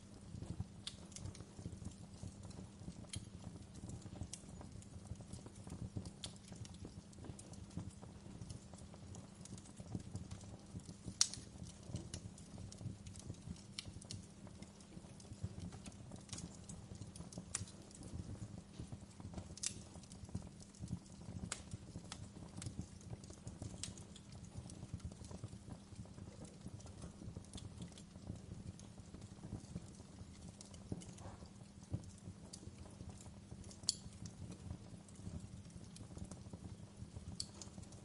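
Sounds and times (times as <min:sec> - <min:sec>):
pops and snaps of fire: 0:00.0 - 0:38.0
wood fire crackling: 0:00.0 - 0:38.0.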